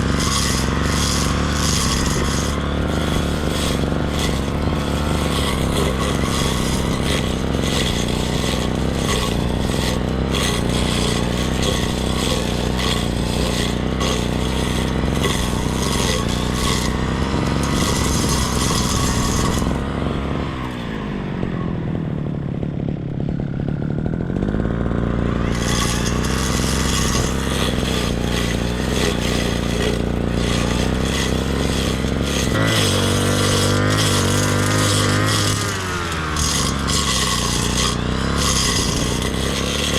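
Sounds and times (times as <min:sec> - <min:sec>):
cutting head scraping through grass: 0:00.0 - 0:21.1, 0:25.2 - 0:39.9
brush cutter engine: 0:00.0 - 0:39.9.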